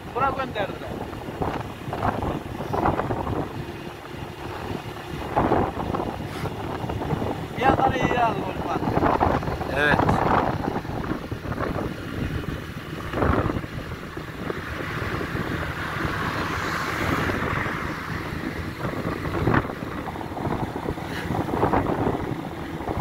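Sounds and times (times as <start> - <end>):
motorcycle engine hum: 0.0 - 23.0
wind rushing over microphone: 0.0 - 23.0.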